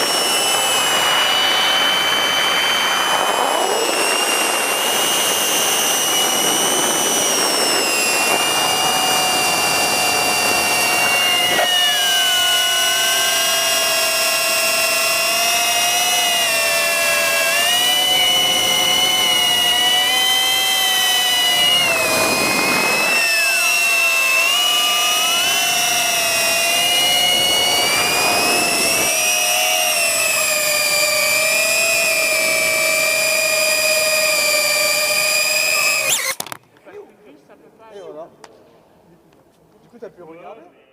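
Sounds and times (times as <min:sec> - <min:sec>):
drone motors whining: 0:00.0 - 0:36.6.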